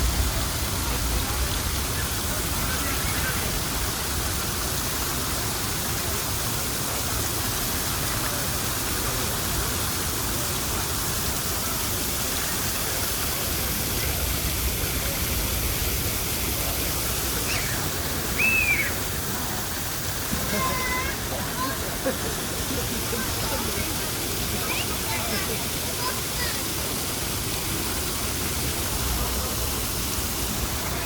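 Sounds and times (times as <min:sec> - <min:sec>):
rushing falling water: 0:00.0 - 0:31.0.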